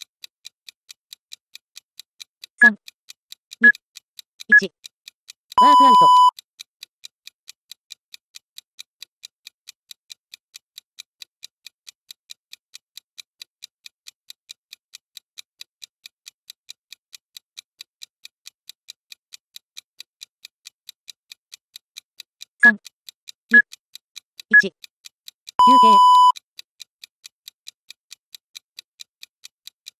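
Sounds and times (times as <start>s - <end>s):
timer ticking: 0.0s - 29.9s.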